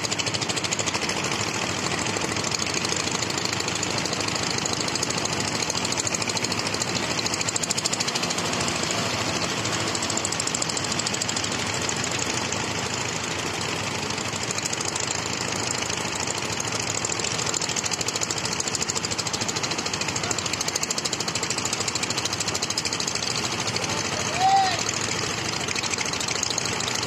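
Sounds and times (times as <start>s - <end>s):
engine knocking clatter: 0.0s - 27.0s.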